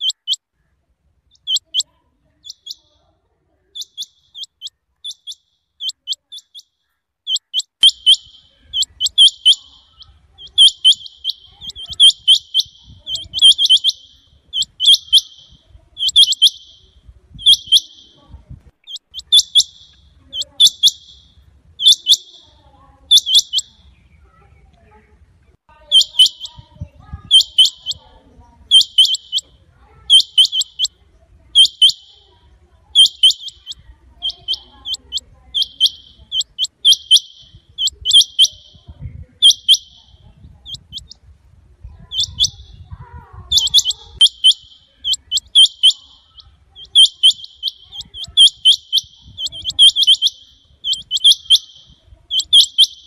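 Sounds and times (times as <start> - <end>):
quail calling: 0.0 - 2.9, 3.6 - 18.2, 18.8 - 23.8, 25.9 - 38.8, 39.4 - 41.2, 42.0 - 53.0.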